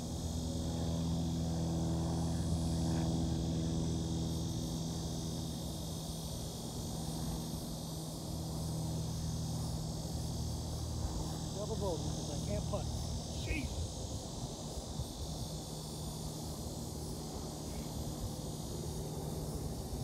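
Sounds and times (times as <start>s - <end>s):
high insect buzz: 0.0s - 20.0s
low motor hum: 0.0s - 20.0s.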